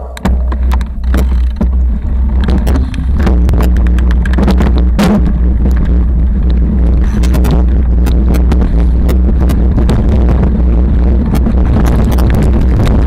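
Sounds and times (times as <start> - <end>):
mountain bike rolling on rough trail: 0.0 - 13.0
sharp clicks and rattles: 0.0 - 13.0.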